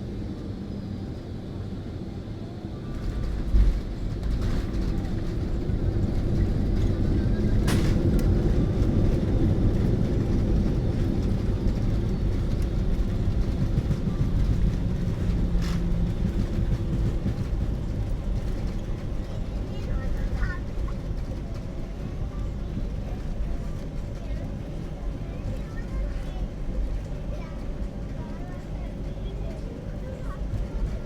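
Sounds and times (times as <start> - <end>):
airliner landing roll rumble: 0.0 - 31.0.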